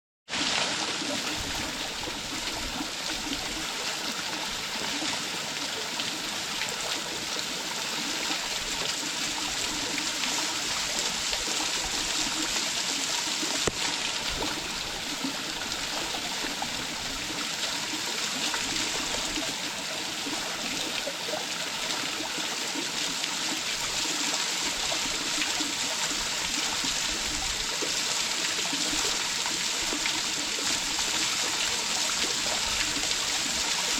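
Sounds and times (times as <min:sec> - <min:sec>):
small waterfall rushing: 0:00.3 - 0:33.9.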